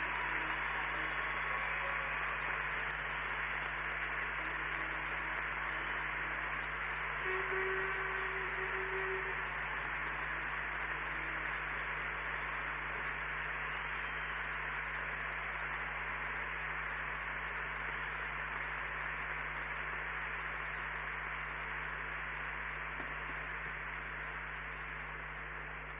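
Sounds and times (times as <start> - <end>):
large crowd applauding: 0.0 - 25.9.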